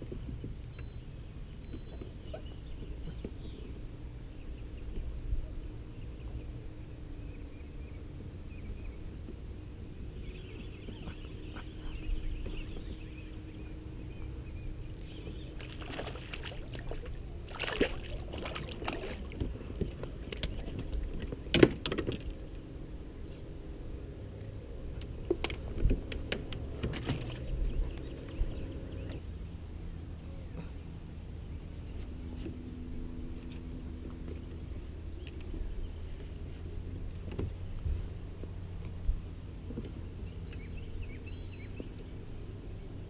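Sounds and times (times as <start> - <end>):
faint steady hum: 0.0 - 43.0
low rumble on water: 0.0 - 43.0.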